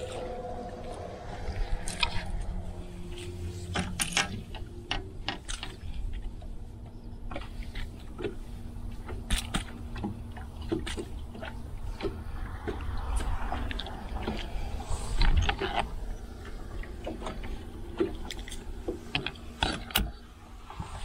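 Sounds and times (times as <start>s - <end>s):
low rumble: 0.0s - 21.0s
water lapping against boat hull: 0.0s - 21.0s.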